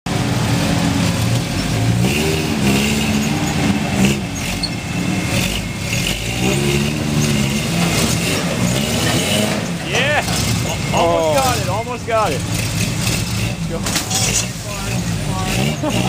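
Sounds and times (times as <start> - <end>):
truck engine revving: 0.1 - 16.0.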